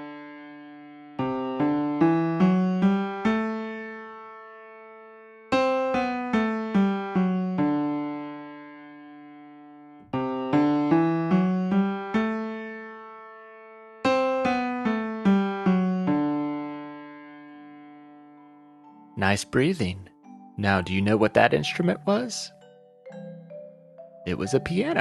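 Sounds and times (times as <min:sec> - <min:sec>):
piano melody: 0:00.0 - 0:25.0.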